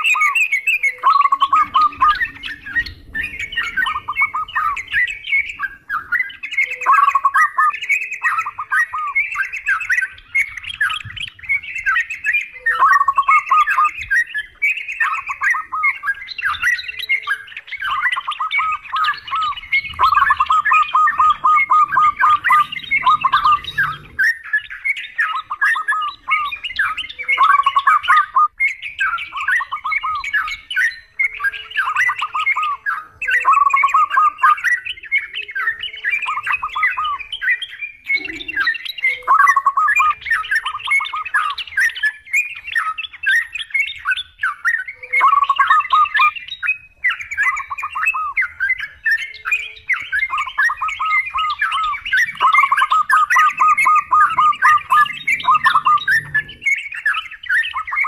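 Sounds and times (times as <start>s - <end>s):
bulbuls chattering: 0.0s - 58.0s
dove calls: 0.0s - 58.0s.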